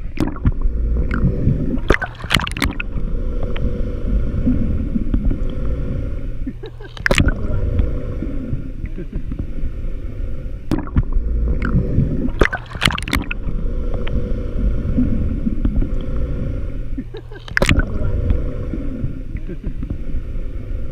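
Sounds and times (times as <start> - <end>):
splashes: 0.0 - 5.7, 6.4 - 9.5, 10.7 - 19.9
boat engine rumble underwater: 0.0 - 20.9.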